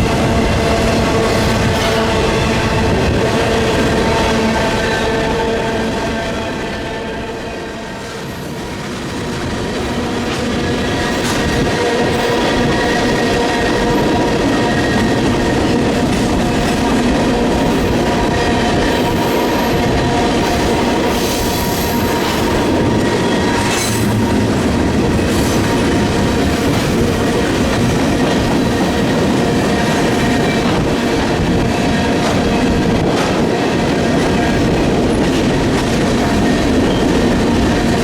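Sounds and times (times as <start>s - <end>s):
wind buffeting microphone: 0.0s - 6.9s, 8.1s - 38.0s
freight train cars rolling: 0.0s - 38.0s.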